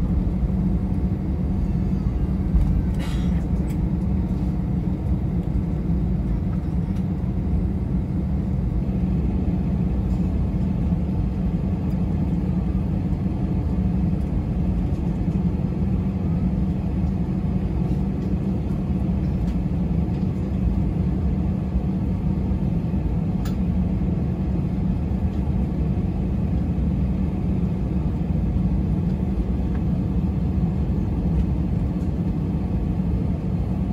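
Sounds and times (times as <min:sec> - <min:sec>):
aircraft rolling on taxiway: 0:00.0 - 0:33.9
jet engines idling: 0:00.0 - 0:33.9.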